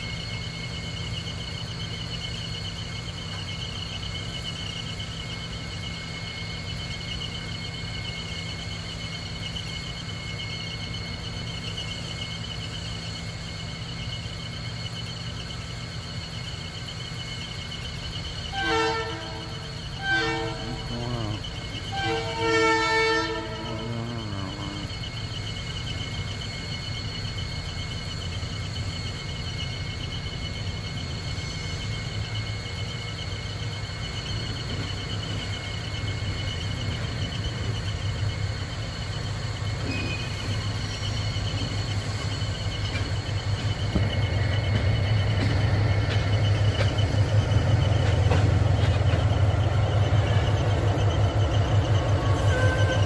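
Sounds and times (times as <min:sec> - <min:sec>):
diesel locomotive engine throbbing: 0:00.0 - 0:53.0.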